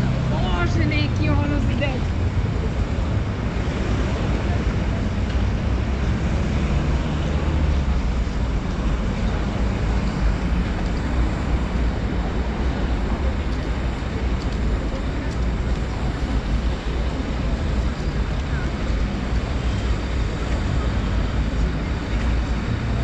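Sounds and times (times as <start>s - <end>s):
bus and car engines rumbling: 0.0s - 23.0s
city street traffic: 0.0s - 23.0s.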